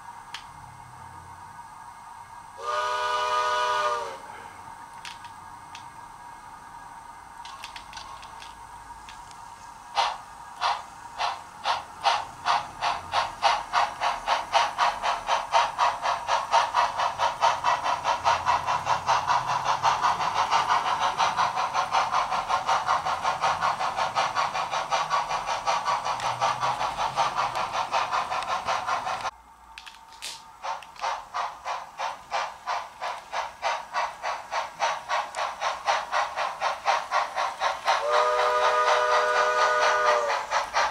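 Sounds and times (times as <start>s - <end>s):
model steam locomotive chuffing: 0.0s - 40.9s.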